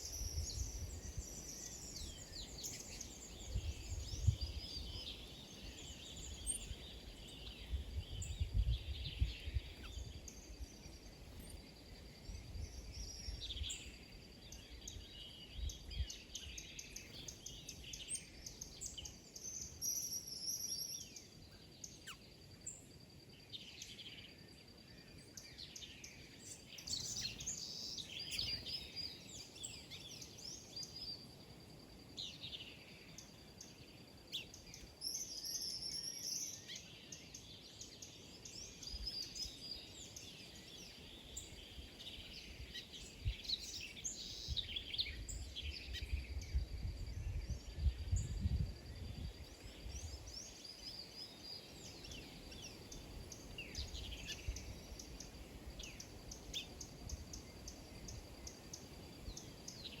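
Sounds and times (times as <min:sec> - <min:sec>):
small birds chirping: 0:00.0 - 1:00.0.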